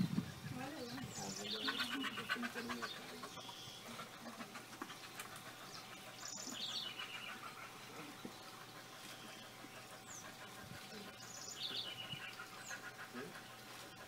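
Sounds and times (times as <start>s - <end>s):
bird chirping: 0.0s - 4.0s, 4.9s - 13.3s.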